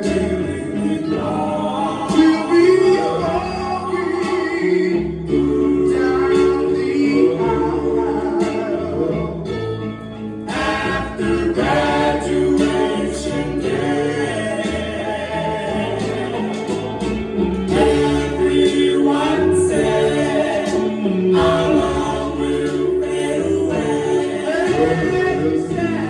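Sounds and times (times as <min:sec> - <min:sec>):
vocal group singing in harmony: 0:00.0 - 0:26.0.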